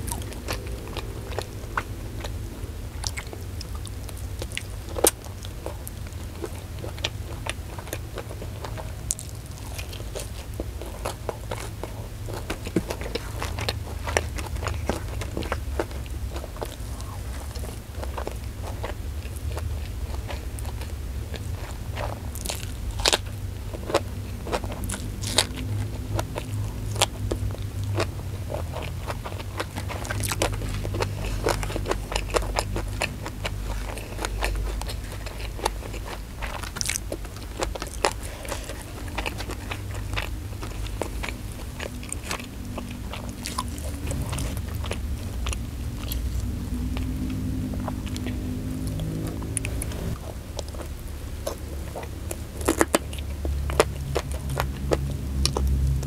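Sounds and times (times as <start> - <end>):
crunching and chewing: 0.0 - 56.0
steady low hum: 0.0 - 56.0.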